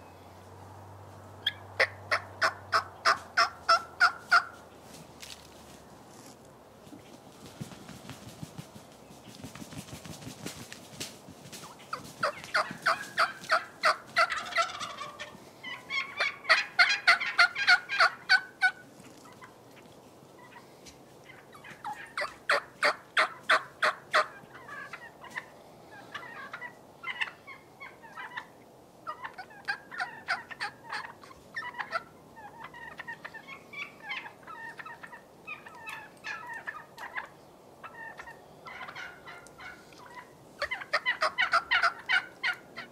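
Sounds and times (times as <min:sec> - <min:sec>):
turkeys gobbling: 0:01.4 - 0:04.6, 0:09.5 - 0:42.9.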